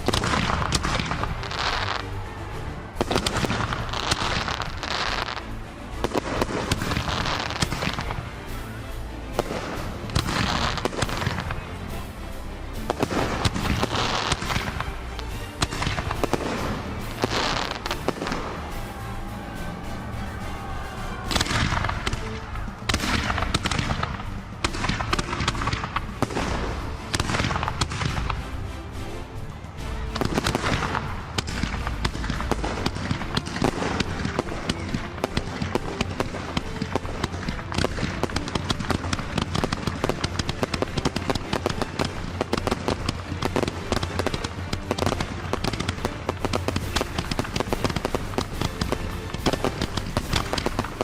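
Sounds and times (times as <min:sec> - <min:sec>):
fireworks bursting: 0:00.0 - 0:51.0
music: 0:00.0 - 0:51.0.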